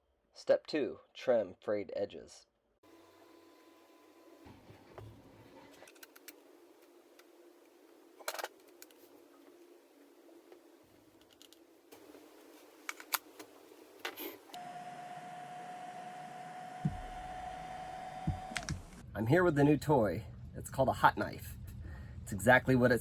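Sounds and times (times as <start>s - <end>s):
steady even hum: 2.9s - 23.0s.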